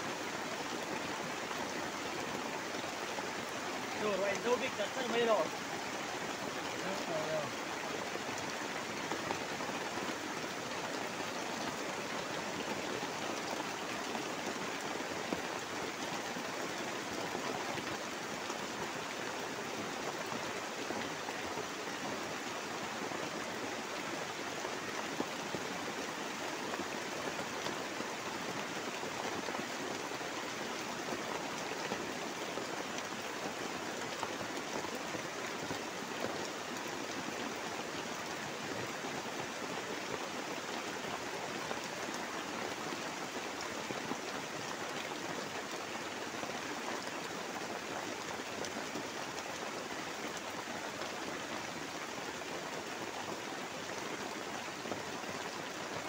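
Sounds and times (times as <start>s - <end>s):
heavy rain on a tarpaulin: 0.0s - 56.0s.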